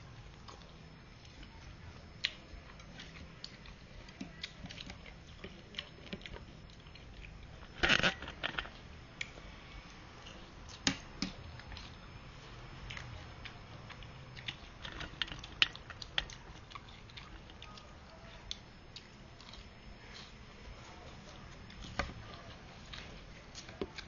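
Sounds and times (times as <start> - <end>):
person chewing noodle soup: 0.2 - 24.0.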